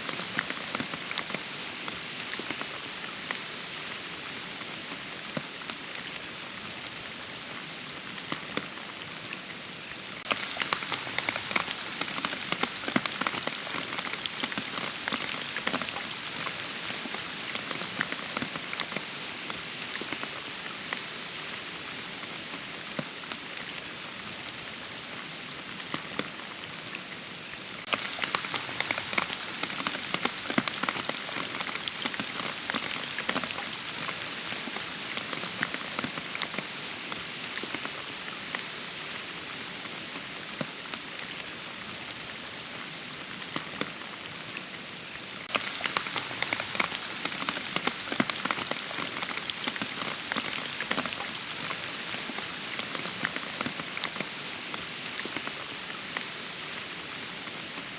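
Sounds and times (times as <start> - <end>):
steady rain patter: 0.0 - 57.9.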